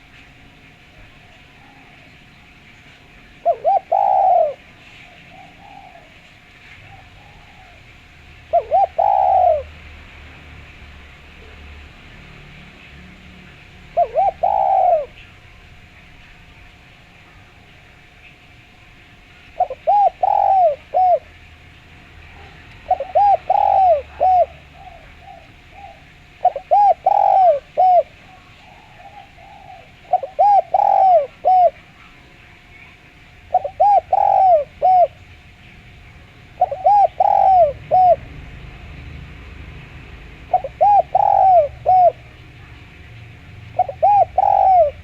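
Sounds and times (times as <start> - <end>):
small birds chirping: 0.0 - 9.7, 12.8 - 45.0
dove cooing: 0.0 - 10.0, 12.9 - 18.4, 19.1 - 45.0.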